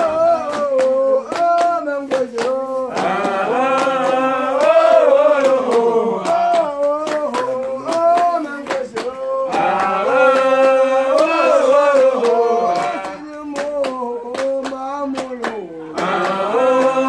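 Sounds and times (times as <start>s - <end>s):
men singing a chant: 0.0s - 17.0s
steady handclaps: 0.0s - 17.0s.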